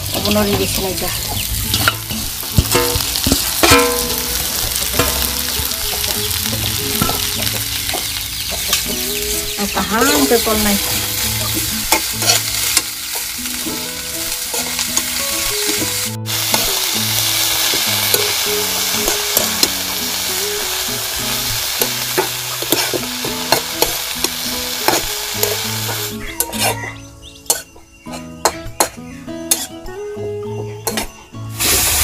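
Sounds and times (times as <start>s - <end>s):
food sizzling in a pan: 0.0s - 26.8s, 31.5s - 32.0s
soft background music: 0.0s - 32.0s.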